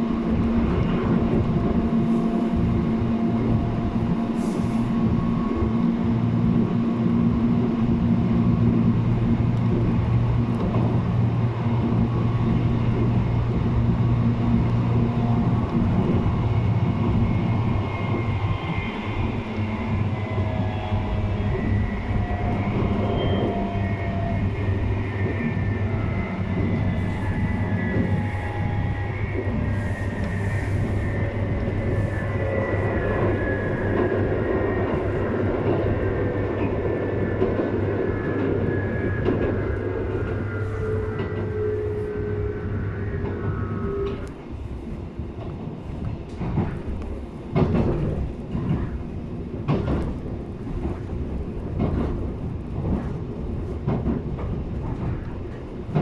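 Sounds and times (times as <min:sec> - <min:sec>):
electric train running hum: 0:00.0 - 0:56.0.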